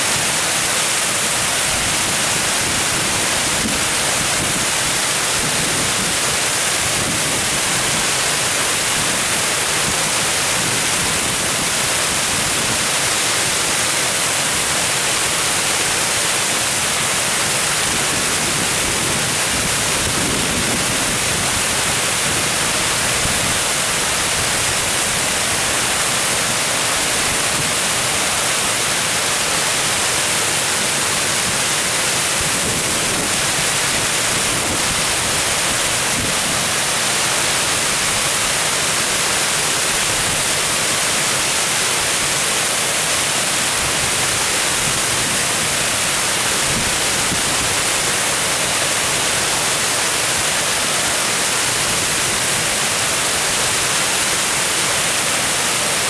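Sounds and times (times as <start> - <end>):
water cascading over weir: 0.0 - 56.0.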